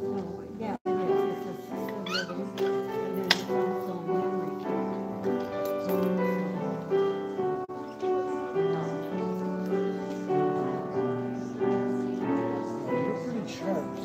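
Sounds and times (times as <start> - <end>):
piano playing slow chords: 0.9 - 14.0.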